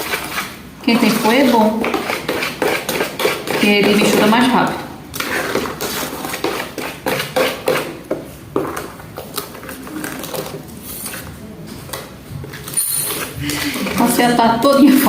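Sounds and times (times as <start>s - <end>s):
utensil stirring thick batter: 0.0s - 15.0s.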